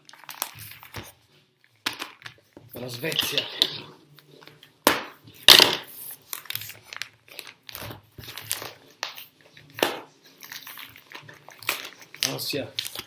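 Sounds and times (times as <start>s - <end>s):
paper wrapping crinkling: 0.0s - 3.4s, 5.9s - 13.0s.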